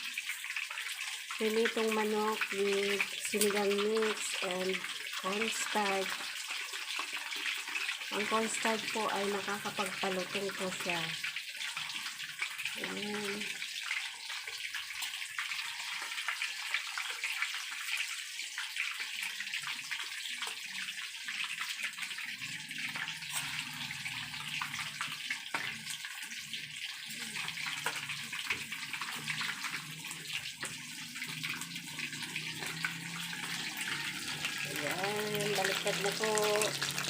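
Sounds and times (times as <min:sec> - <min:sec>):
chicken deep-frying in oil: 0:00.0 - 0:37.0.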